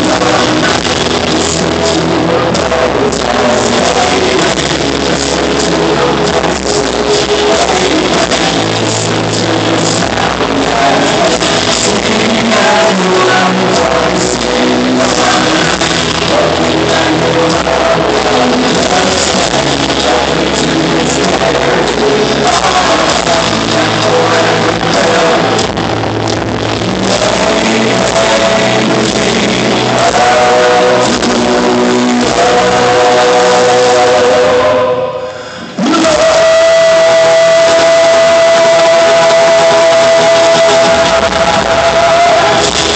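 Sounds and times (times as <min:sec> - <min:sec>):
live band music with singing: 0:00.0 - 0:42.9.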